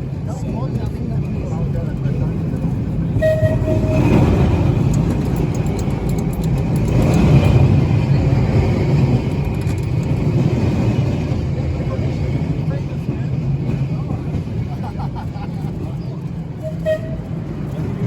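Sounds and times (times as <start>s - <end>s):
tram rumbling: 0.0s - 18.0s.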